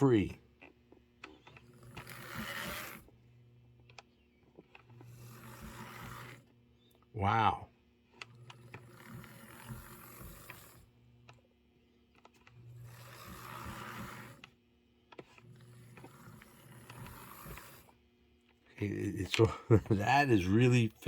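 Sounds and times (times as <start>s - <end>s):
small electric motor whirring: 0.0s - 20.7s.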